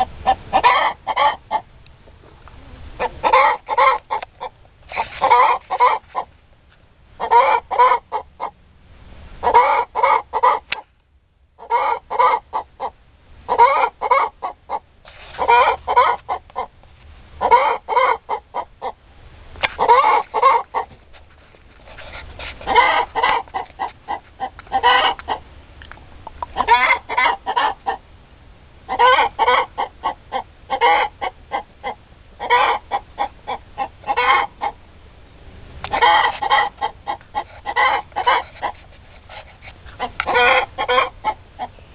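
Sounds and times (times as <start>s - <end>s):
chicken clucking: 0.0s - 6.3s, 7.2s - 8.6s, 9.4s - 10.8s, 11.6s - 16.8s, 17.4s - 19.0s, 19.7s - 21.0s, 21.8s - 25.4s, 26.3s - 28.0s, 28.9s - 34.8s, 35.8s - 41.8s.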